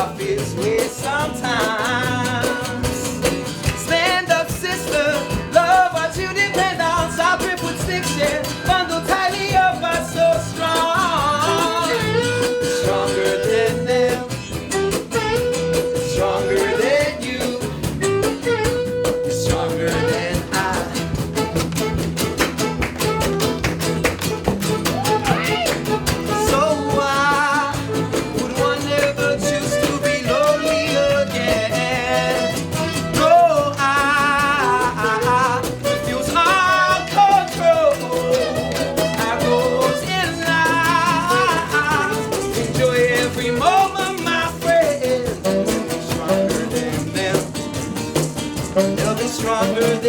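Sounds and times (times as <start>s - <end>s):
guitar strumming: 0.0s - 50.0s.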